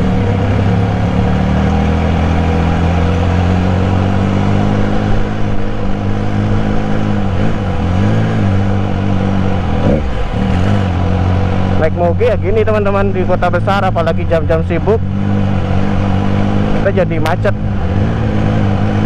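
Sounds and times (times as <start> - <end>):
motorcycle engine running at low revs: 0.0 - 19.0.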